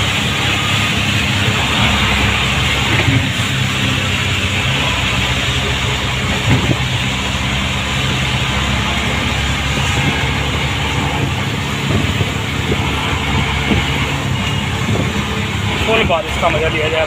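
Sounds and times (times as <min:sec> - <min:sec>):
auto-rickshaw engine running: 0:00.0 - 0:17.0
road noise: 0:00.0 - 0:17.0
rushing wind: 0:00.0 - 0:17.0.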